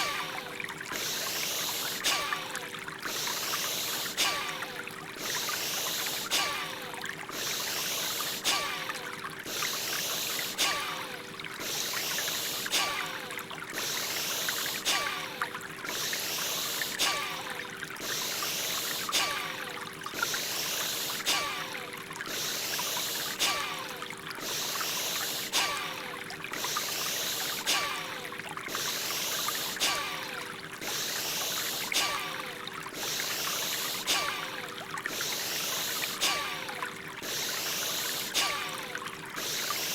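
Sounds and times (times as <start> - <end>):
flowing water: 0.0 - 39.9
forceful rhythmic breathing: 0.0 - 39.9.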